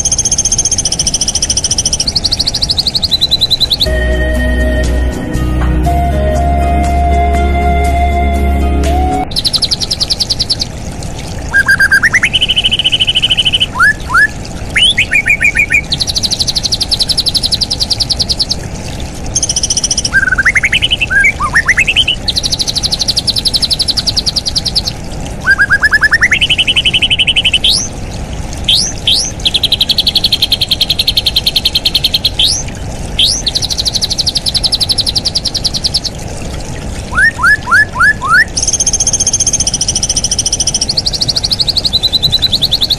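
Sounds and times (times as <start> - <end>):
bird singing whistles and trills: 0.0 - 10.7, 11.5 - 18.6, 19.4 - 27.9, 28.7 - 36.2, 37.1 - 42.9.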